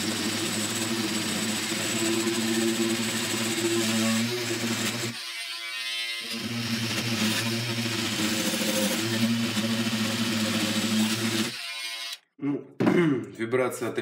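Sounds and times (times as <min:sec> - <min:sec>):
multi-tool sawing wood: 0:00.0 - 0:12.2.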